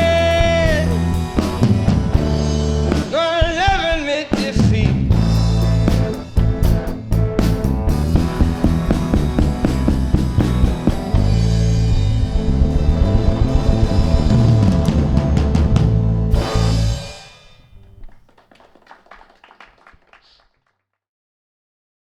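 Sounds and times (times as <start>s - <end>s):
blues-rock band playing: 0.0s - 18.4s.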